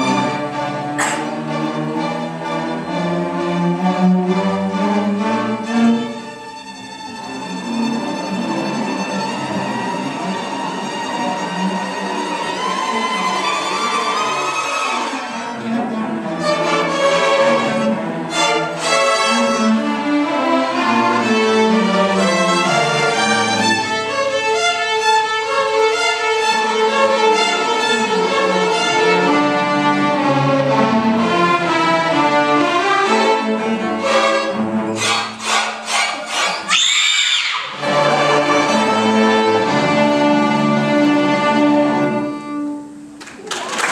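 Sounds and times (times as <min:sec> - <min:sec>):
string orchestra playing: 0:00.0 - 0:43.2.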